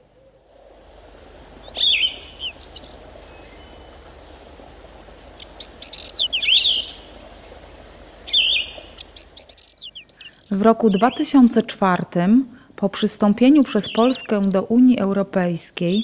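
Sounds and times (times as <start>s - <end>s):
insects chirring: 0.0s - 15.2s
songbird chirping: 0.0s - 16.0s.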